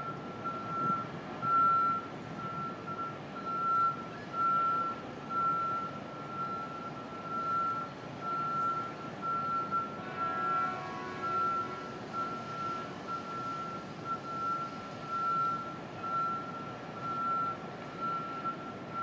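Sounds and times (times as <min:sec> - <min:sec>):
backup warning alarm beeping: 0:00.0 - 0:10.0, 0:11.2 - 0:19.0
low city rumble: 0:00.0 - 0:19.0.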